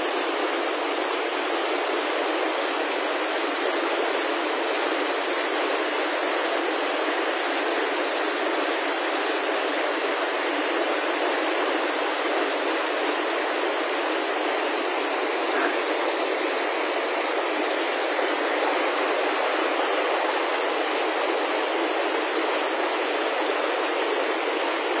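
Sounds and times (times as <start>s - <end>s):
river water rushing over rocks: 0.0s - 25.0s.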